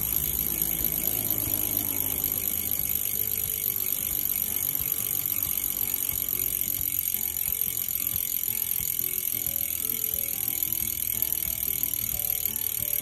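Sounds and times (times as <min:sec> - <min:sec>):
bicycle freehub ratcheting: 0:00.0 - 0:13.0.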